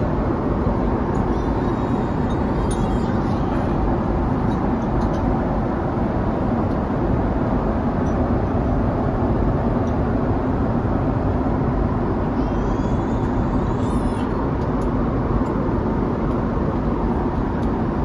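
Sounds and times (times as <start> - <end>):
airliner cabin engine rush: 0.0 - 18.0.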